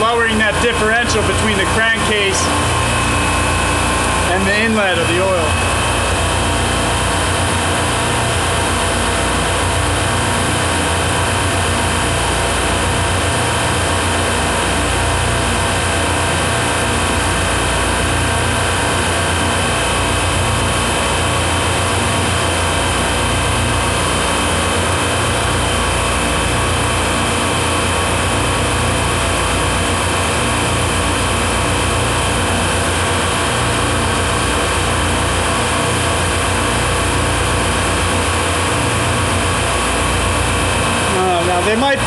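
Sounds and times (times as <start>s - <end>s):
refrigeration compressors humming: 0.0s - 42.0s.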